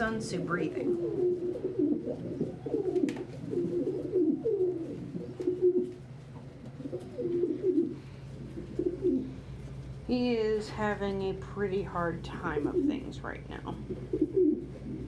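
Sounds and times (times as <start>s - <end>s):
pigeons cooing: 0.0s - 9.8s, 12.4s - 15.0s.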